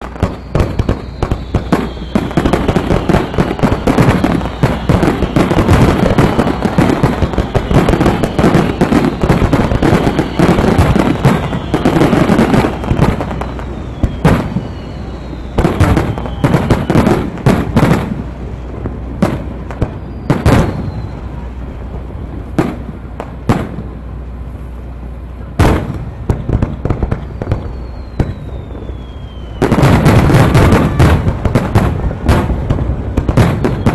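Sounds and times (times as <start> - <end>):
fireworks bangs and crackles: 0.0 - 33.9
fireworks whistles: 0.0 - 33.9.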